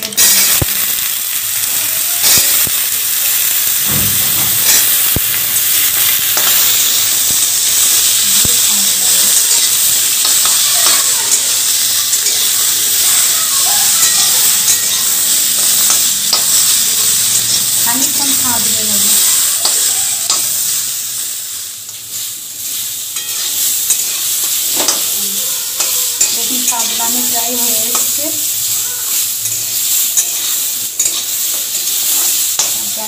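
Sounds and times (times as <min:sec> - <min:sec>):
fruit sizzling in hot oil: 0:00.0 - 0:33.0
spatula scraping and knocking pan: 0:03.7 - 0:20.6, 0:23.2 - 0:33.0.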